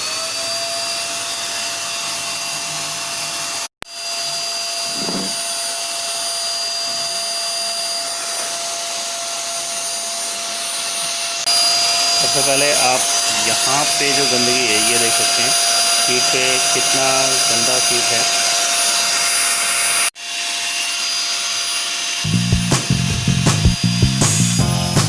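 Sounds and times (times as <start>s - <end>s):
vacuum cleaner running: 0.0s - 24.6s.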